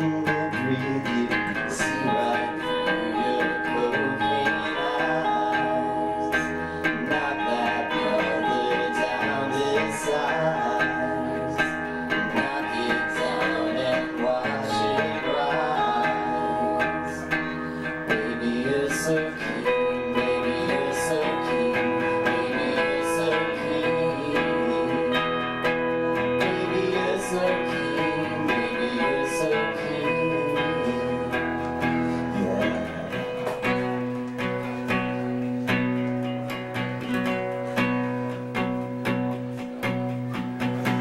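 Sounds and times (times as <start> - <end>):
strummed guitars: 0.0 - 41.0.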